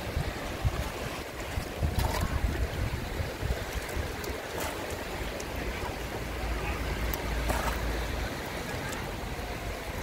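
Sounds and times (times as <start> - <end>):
surf washing on beach: 0.0 - 10.0
wind buffeting microphone: 0.0 - 10.0.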